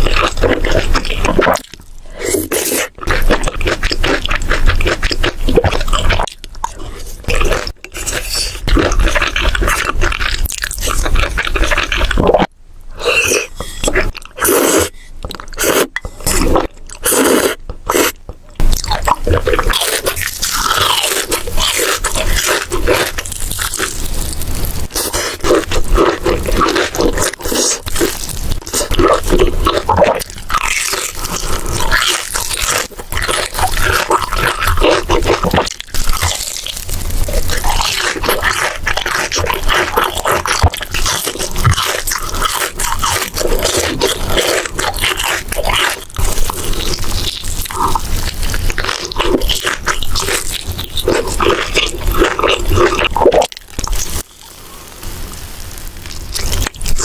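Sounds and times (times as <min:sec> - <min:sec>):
crunching bites and chewing: 0:00.0 - 0:54.4, 0:56.0 - 0:57.0.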